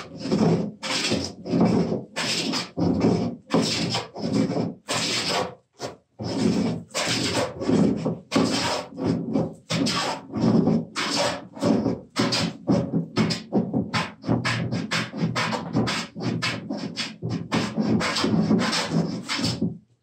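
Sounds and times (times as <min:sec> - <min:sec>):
hand plane cutting wood: 0:00.0 - 0:19.7.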